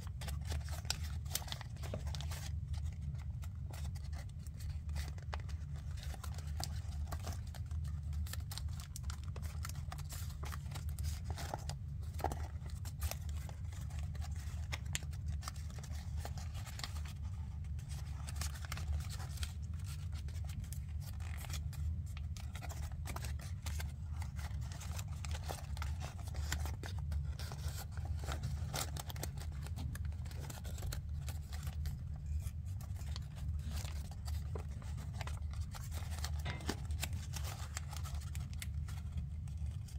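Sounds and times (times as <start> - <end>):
paper crinkling and rustling: 0.0 - 39.9.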